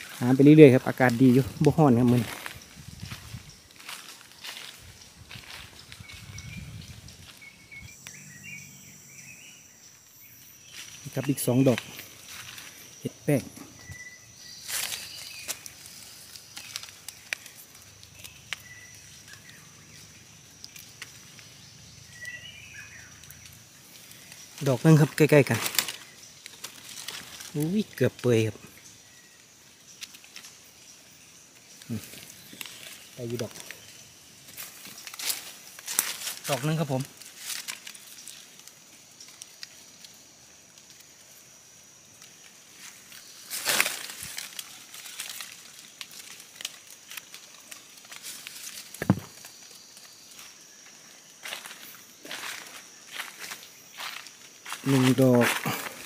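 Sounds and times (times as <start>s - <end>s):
high insect drone: 0.0s - 56.0s
wet leaves crackling: 0.0s - 56.0s.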